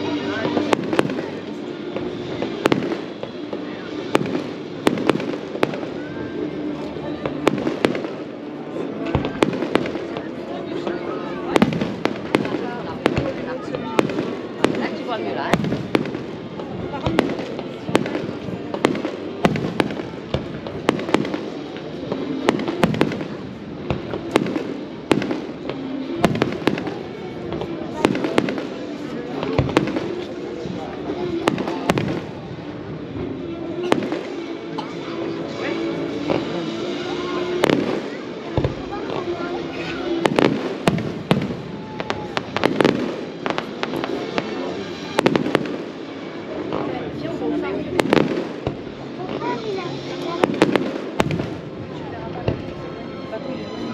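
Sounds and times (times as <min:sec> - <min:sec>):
fireworks bangs and pops: 0:00.0 - 0:06.1, 0:06.7 - 0:52.7.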